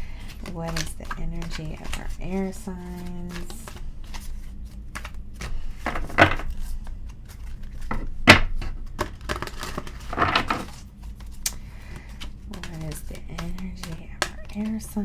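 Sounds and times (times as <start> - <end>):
cards being shuffled: 0.0 - 15.0.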